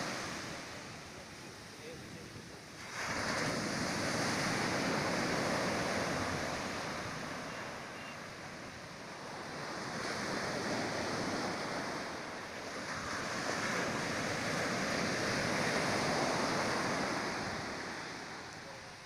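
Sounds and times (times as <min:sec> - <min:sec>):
surf washing up a beach: 0:00.0 - 0:19.0.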